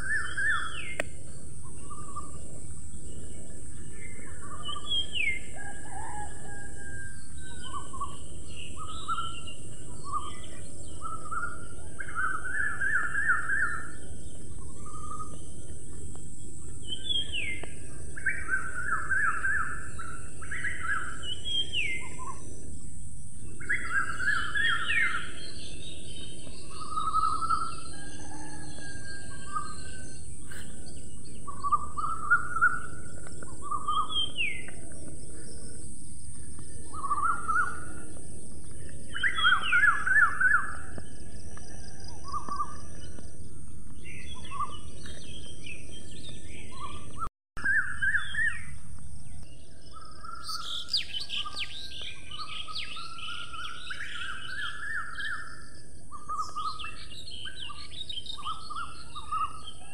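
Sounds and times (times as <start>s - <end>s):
constant high hiss: 0.0s - 47.0s, 47.7s - 59.9s
birds chirping and singing: 0.0s - 59.9s.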